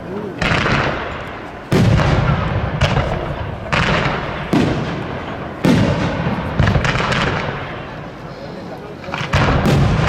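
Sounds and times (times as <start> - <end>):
fireworks booming: 0.0 - 8.3, 8.9 - 10.0.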